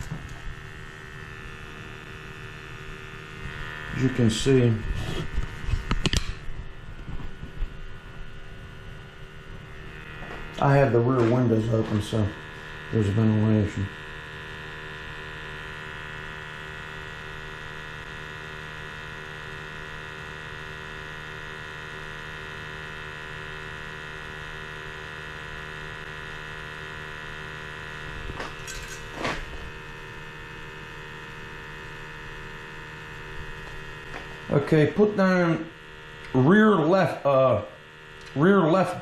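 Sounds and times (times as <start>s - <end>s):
small motor buzzing hum: 0.0s - 39.0s.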